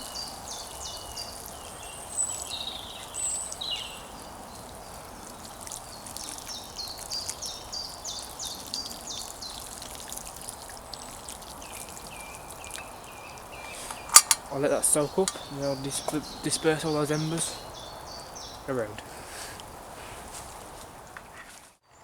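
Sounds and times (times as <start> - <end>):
bird chirping: 0.0 - 9.9, 10.8 - 19.1
water poured on hot embers: 0.0 - 21.7.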